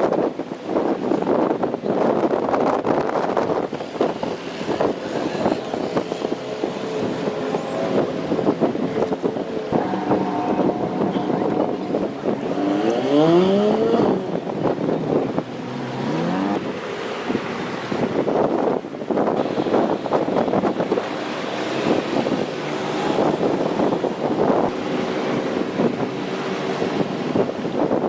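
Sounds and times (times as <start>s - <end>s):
boat engine humming: 0.0s - 28.0s
wind buffeting microphone: 0.0s - 28.0s.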